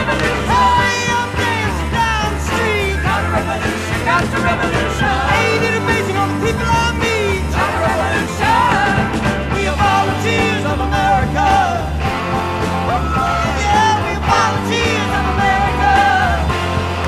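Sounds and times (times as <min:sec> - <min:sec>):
person singing: 0:00.0 - 0:12.1, 0:12.8 - 0:16.6
bass line: 0:00.0 - 0:17.0
drums: 0:00.0 - 0:17.0
rock band playing: 0:00.0 - 0:17.0.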